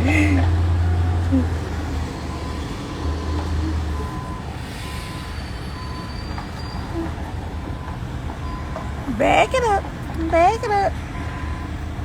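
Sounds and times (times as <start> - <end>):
street traffic: 0.0 - 12.0
vehicle engines idling: 0.0 - 12.0.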